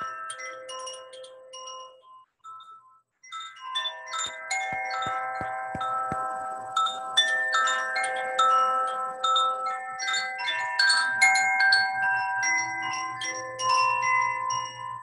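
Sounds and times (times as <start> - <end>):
wind chime ringing: 0.0 - 15.0.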